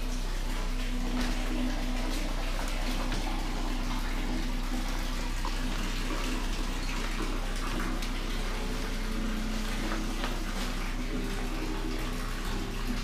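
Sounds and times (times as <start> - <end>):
low hum: 0.0 - 13.0
water running: 0.0 - 13.0.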